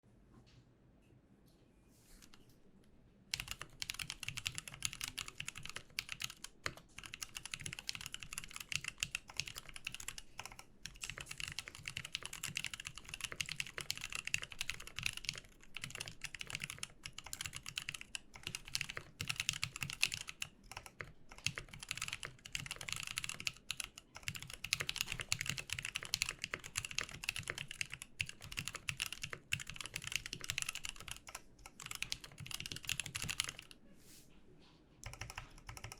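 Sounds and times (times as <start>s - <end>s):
mechanical keyboard typing: 3.3s - 33.8s, 35.0s - 35.9s.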